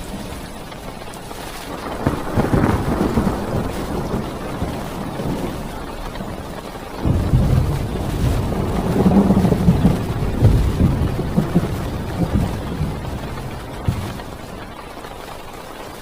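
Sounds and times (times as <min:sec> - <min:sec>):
heavy rain on a car: 0:00.0 - 0:16.0
thunder rumbling: 0:00.0 - 0:16.0.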